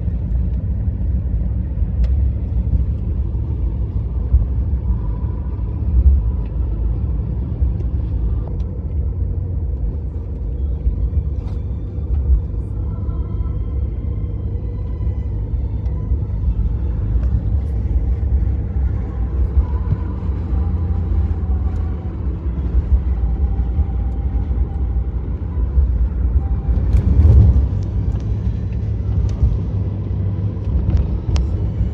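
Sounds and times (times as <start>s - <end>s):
road vehicle rumble: 0.0s - 31.9s.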